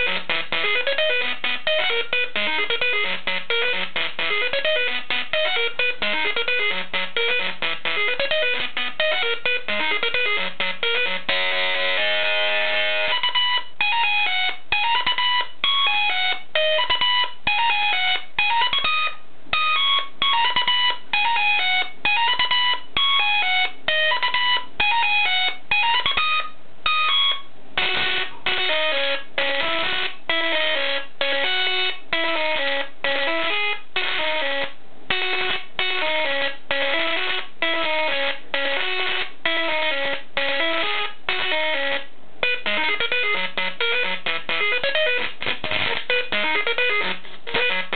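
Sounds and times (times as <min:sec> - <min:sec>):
plasma arc playing a melody: 0:00.0 - 0:26.3, 0:27.0 - 0:47.9.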